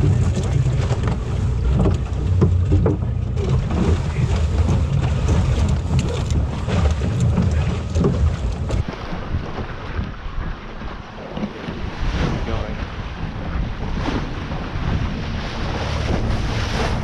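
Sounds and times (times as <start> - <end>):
sail and rigging flapping: 0.0 - 17.0
water: 0.0 - 17.0
wind buffeting microphone: 0.0 - 17.0.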